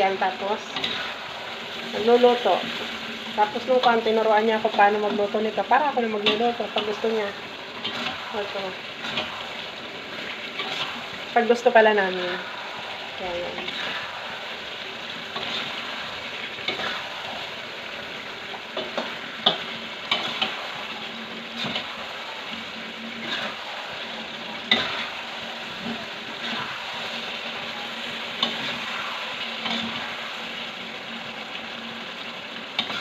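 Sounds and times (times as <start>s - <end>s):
food sizzling in oil: 0.0s - 33.0s.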